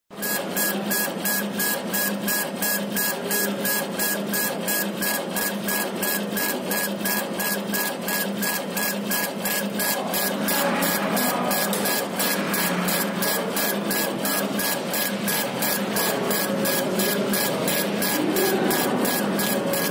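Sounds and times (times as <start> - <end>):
laser head whirring back and forth: 3.0 - 19.9.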